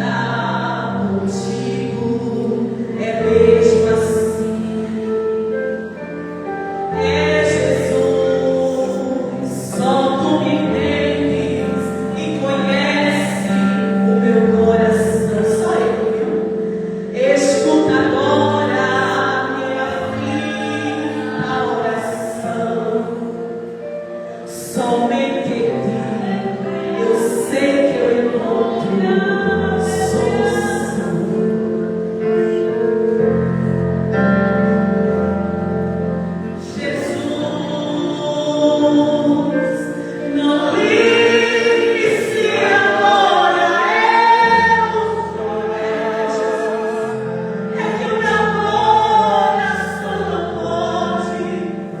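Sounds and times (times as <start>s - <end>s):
choir singing gospel: 0.0s - 33.3s, 34.1s - 52.0s.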